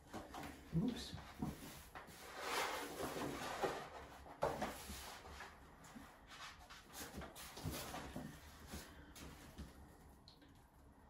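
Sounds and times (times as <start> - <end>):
paper rustling against wall: 0.1 - 10.0.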